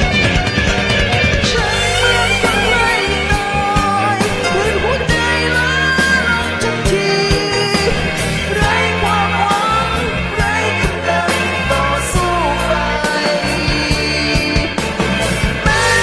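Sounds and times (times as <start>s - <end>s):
pop-rock song: 0.0s - 16.0s.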